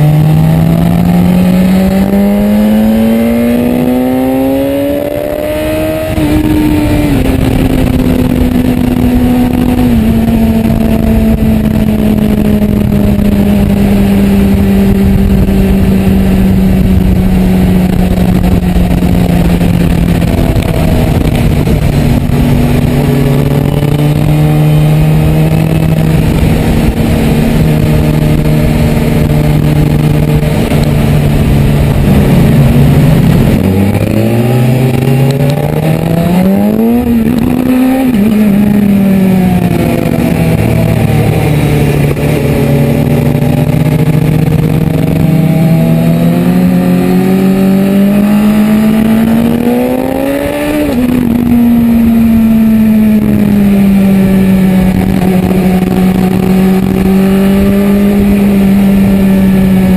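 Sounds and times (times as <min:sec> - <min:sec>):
motorcycle engine: 0:00.0 - 0:59.9
wind noise: 0:00.0 - 0:59.9.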